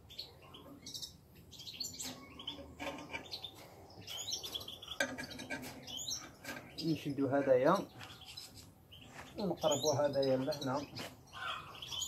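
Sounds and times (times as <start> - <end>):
songbirds chirping and twittering: 0.0 - 12.0.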